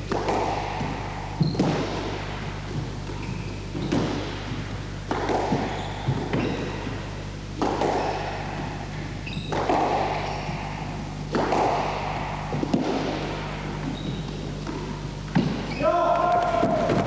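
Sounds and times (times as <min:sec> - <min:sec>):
squash ball hits echoing: 0:00.0 - 0:17.0.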